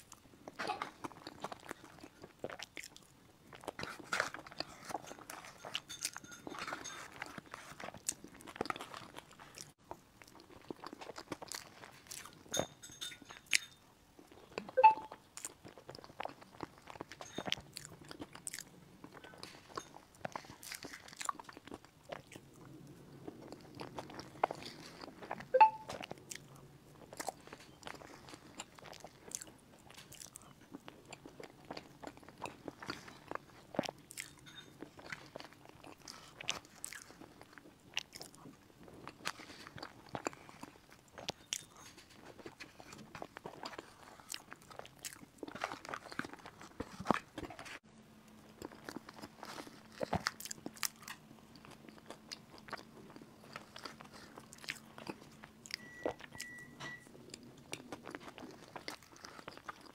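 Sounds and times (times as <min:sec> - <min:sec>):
chewing and crunching cake: 0:00.0 - 0:59.9.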